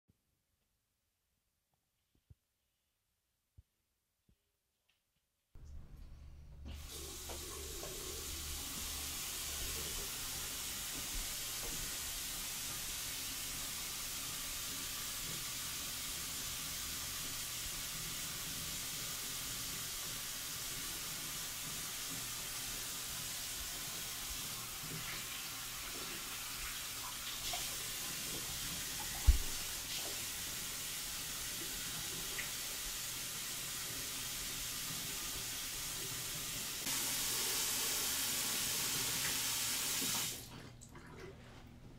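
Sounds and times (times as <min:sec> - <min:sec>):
water running from faucet: 0:06.6 - 0:41.2.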